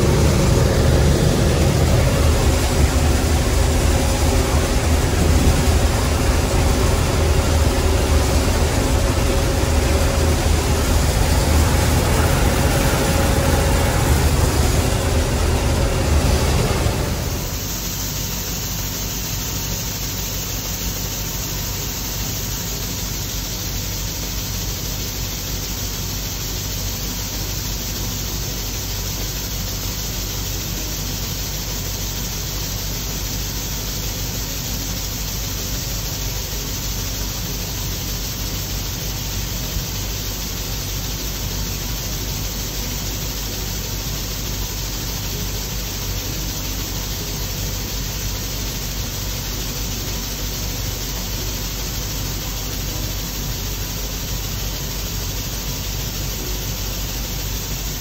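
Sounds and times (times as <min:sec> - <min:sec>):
combine engine drone: 0:00.0 - 0:58.0
mechanical hiss: 0:00.0 - 0:58.0.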